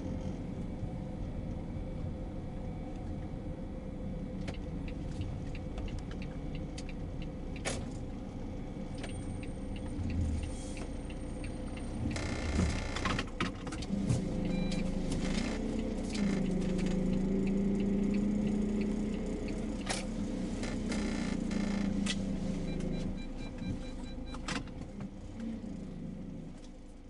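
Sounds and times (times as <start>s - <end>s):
car engine and road hum: 0.0s - 27.0s.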